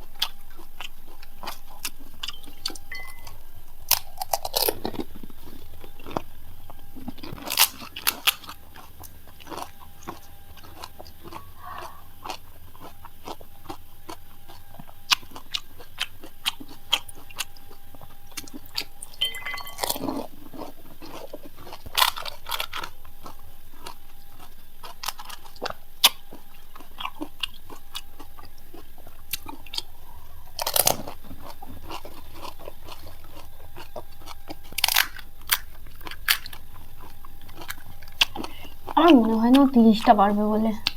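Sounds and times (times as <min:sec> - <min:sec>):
crisp shells crunching: 0:00.0 - 0:40.9.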